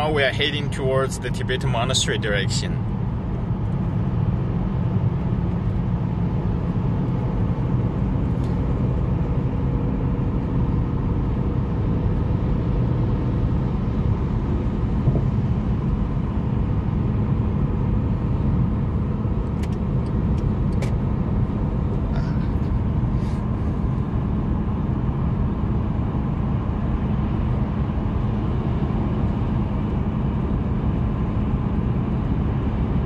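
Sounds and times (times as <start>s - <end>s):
car driving interior rumble: 0.0s - 33.0s.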